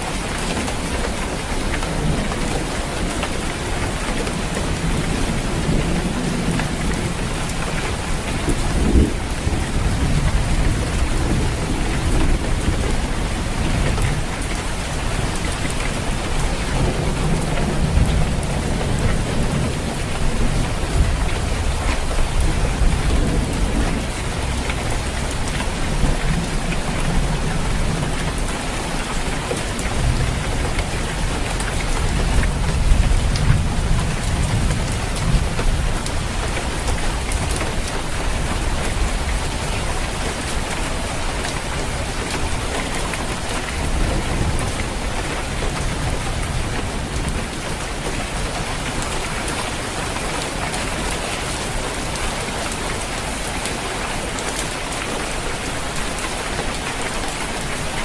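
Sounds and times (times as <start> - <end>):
rain falling on a roof: 0.0 - 58.0
thunder rumbling: 1.9 - 50.3.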